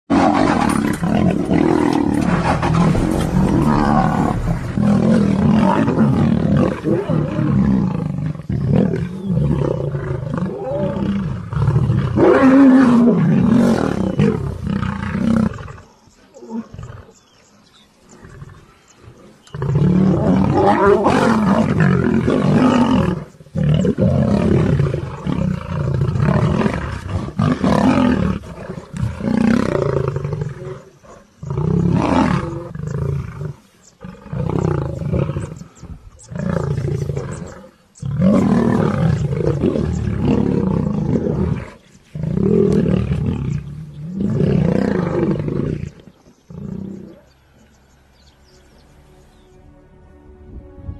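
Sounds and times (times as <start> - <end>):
lions roaring and snarling: 0.1 - 47.7.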